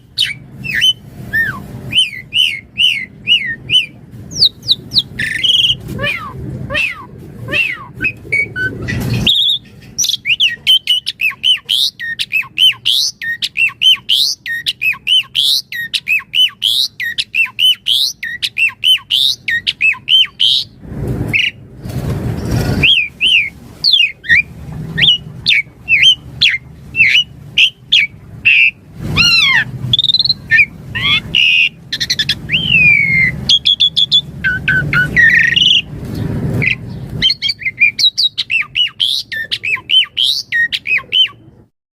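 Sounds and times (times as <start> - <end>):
starling singing: 0.0 - 21.7, 22.4 - 41.6.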